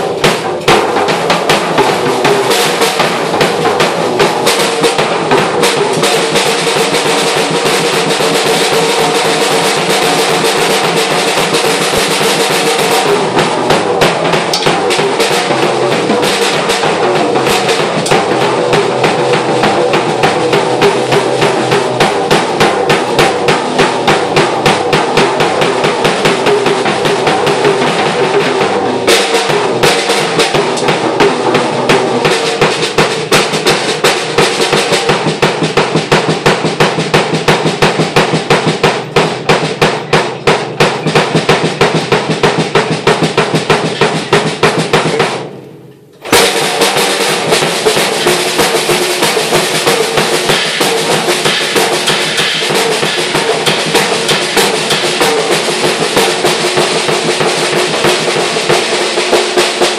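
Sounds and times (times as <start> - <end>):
drum kit playing: 0.0 - 59.9.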